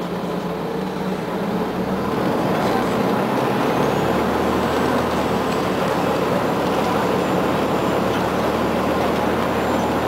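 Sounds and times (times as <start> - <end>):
bus engine running: 0.0 - 10.0
tyre and road noise: 0.0 - 10.0.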